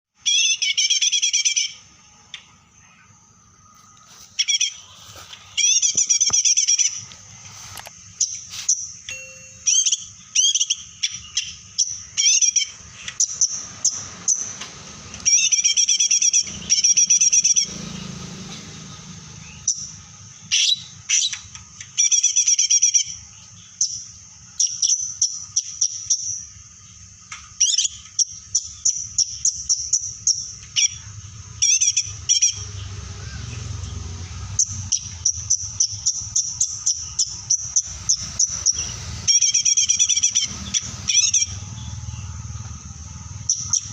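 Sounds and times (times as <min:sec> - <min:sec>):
songbird chirping and trilling: 0:00.2 - 0:43.9.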